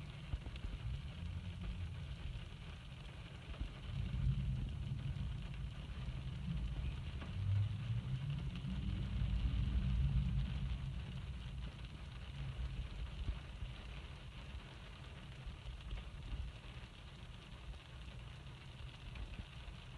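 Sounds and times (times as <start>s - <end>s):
low rumble: 0.0s - 16.8s
rain falling: 0.0s - 19.9s.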